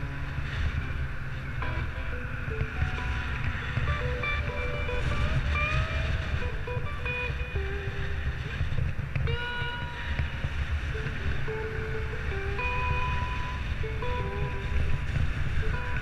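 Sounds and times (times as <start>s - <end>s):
melody of held notes: 0.0s - 16.0s
wind rumble on microphone: 0.0s - 16.0s.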